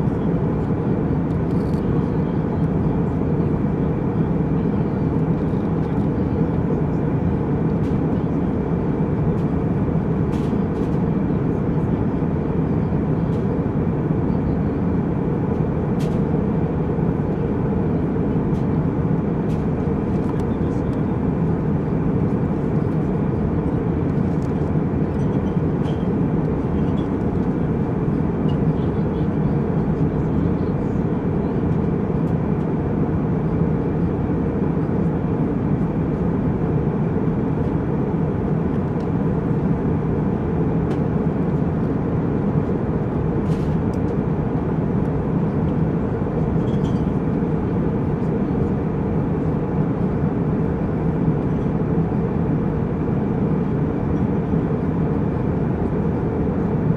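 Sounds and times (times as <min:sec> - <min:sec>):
jet cabin engine and airflow rush: 0:00.0 - 0:56.9.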